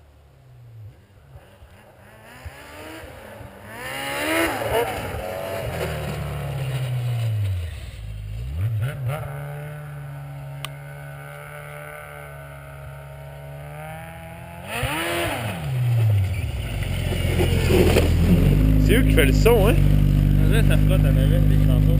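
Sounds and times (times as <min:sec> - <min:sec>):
snowmobile engine revving: 0:01.3 - 0:21.9.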